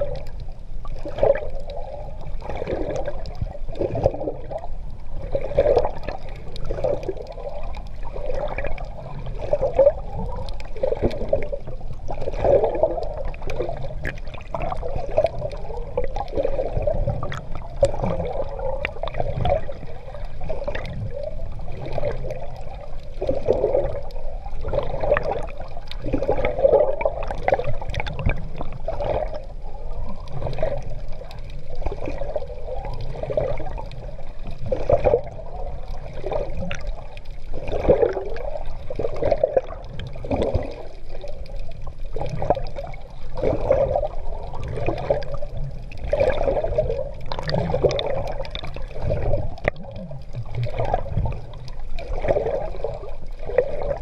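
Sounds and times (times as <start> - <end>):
water sloshing and gurgling: 0.0 - 54.0.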